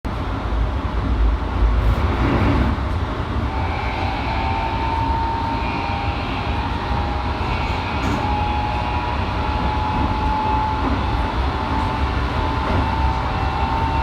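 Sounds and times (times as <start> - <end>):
train running rumble: 0.1 - 14.0.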